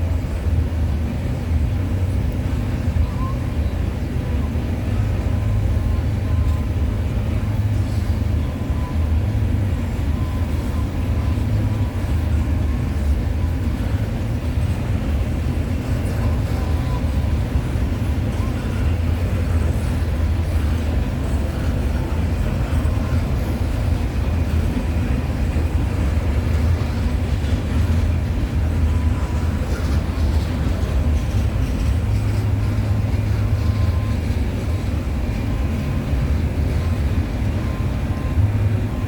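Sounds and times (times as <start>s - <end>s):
freight train wheels rumbling on rail: 0.0s - 39.0s.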